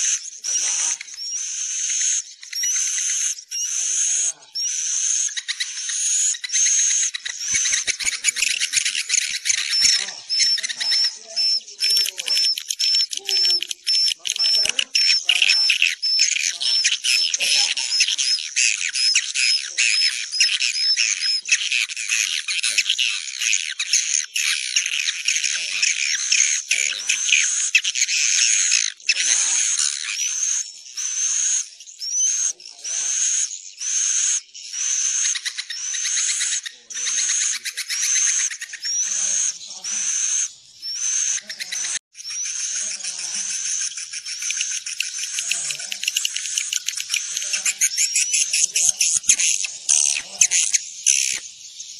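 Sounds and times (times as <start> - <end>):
rising chirp: 0.0 - 21.5, 23.8 - 51.9
birds twittering chatter: 0.0 - 51.9.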